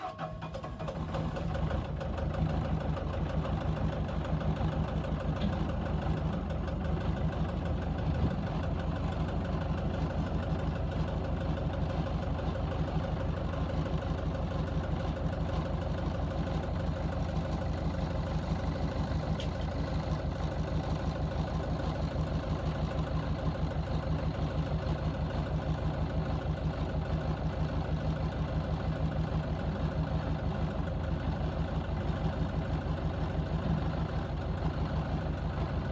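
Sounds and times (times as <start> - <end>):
diesel engine idling: 0.5 - 35.9.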